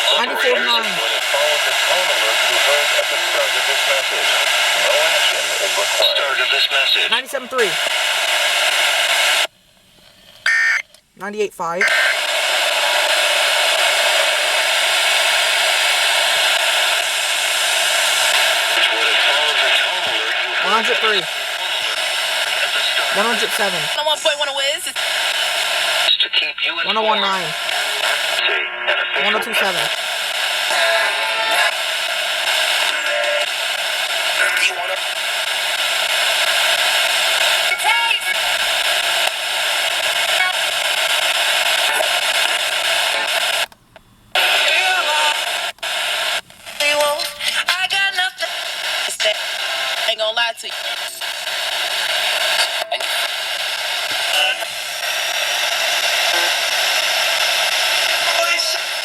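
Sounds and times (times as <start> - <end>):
radio station audio snatch: 0.0 - 11.0, 11.8 - 24.0, 24.9 - 30.8, 31.4 - 59.0
radio static hiss: 0.0 - 59.0.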